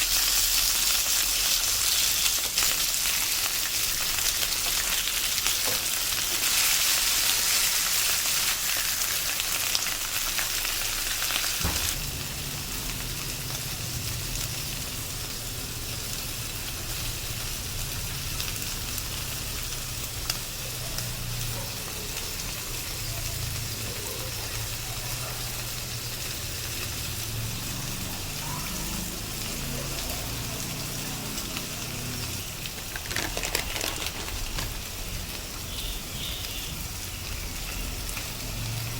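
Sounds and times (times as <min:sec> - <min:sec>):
meat sizzling in a frying pan: 0:00.0 - 0:38.9.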